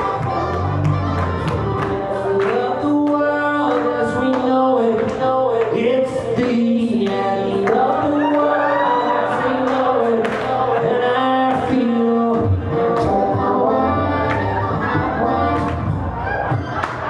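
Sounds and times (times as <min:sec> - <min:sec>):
person singing long notes: 0:00.0 - 0:16.2.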